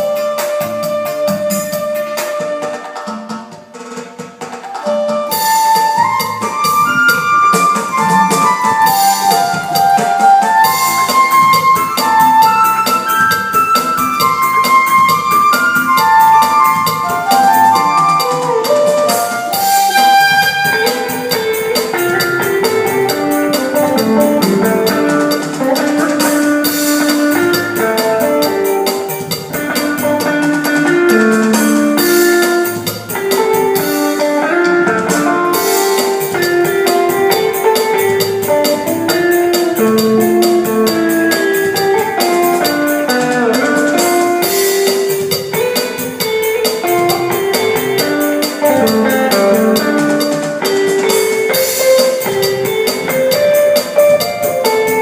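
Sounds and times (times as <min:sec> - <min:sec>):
keyboard cha-cha-cha music: 0:00.0 - 0:55.0.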